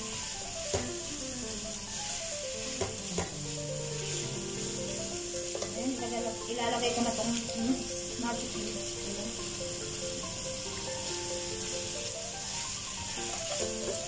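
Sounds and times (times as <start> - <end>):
food sizzling in a pot: 0.0 - 14.0.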